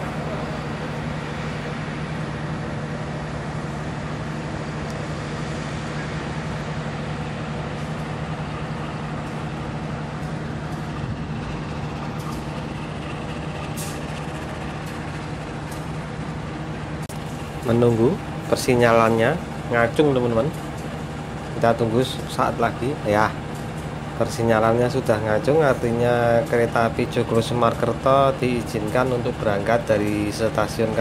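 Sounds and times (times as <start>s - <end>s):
diesel train engine humming: 0.0s - 31.0s.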